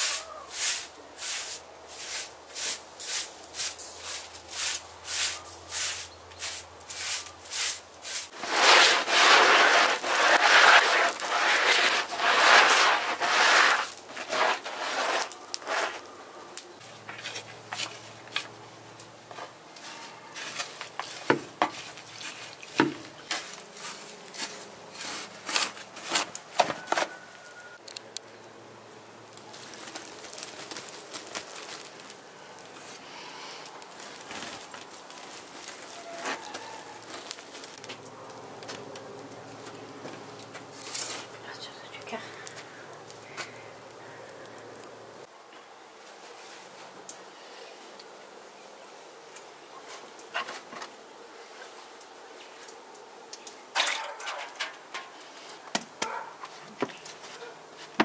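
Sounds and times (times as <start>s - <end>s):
ash pattering onto embers: 0.0s - 45.2s, 52.0s - 58.0s.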